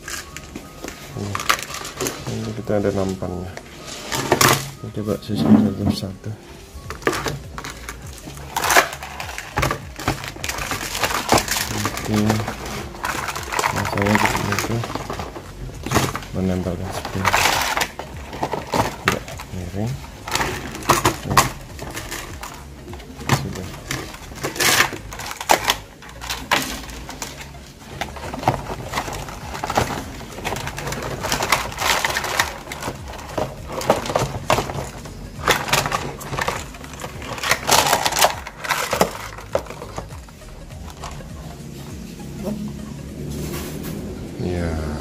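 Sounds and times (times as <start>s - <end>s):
plastic planters knocking and scraping: 0.0s - 41.2s.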